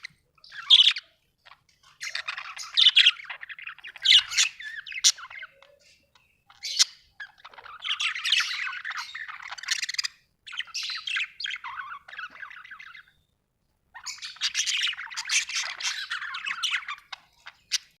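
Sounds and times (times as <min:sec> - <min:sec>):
budgerigar chirping and warbling: 0:00.0 - 0:13.2, 0:13.9 - 0:18.0.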